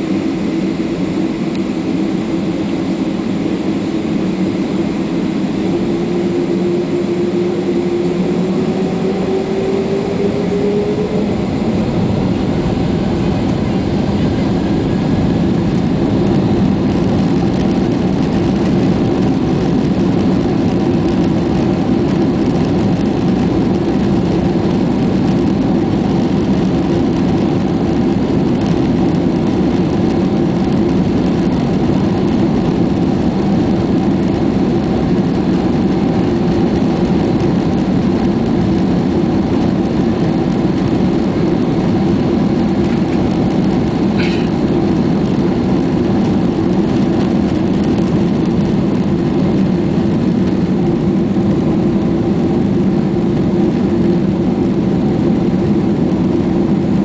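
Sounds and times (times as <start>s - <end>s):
jet engine whine: 0.0s - 57.0s
jet engines spooling up: 0.0s - 57.0s.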